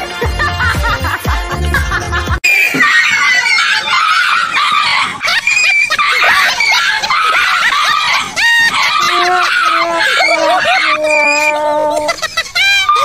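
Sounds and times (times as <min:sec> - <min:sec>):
people screaming and shrieking: 0:02.4 - 0:13.0.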